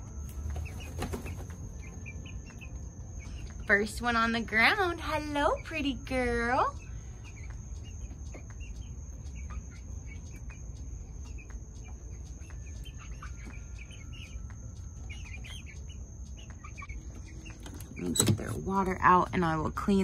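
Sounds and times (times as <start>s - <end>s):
young chickens chirping and clucking: 0.2s - 19.7s.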